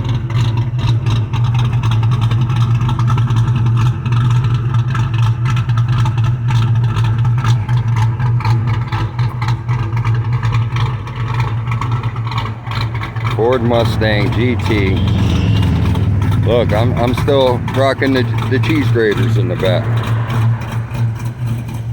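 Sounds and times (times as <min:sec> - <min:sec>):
car engine idling with loud exhaust: 0:00.0 - 0:21.9.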